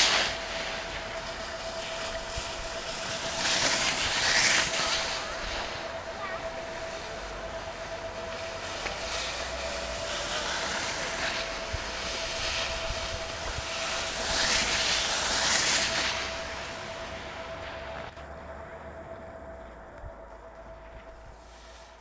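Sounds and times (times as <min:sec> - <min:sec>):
skis scraping over snow: 0:00.0 - 0:18.3, 0:19.5 - 0:22.0
thin steady tone: 0:00.0 - 0:22.0.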